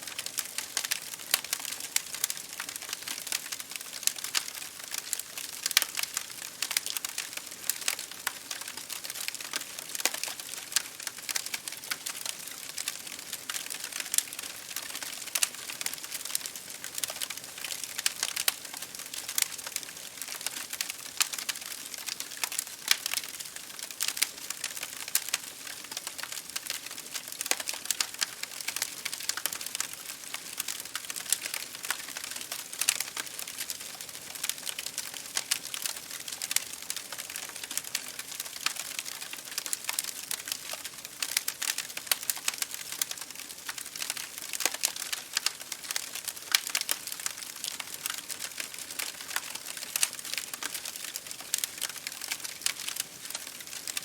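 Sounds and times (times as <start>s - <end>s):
rain on a window pane: 0.0s - 54.0s
wood fire crackling: 0.0s - 54.0s.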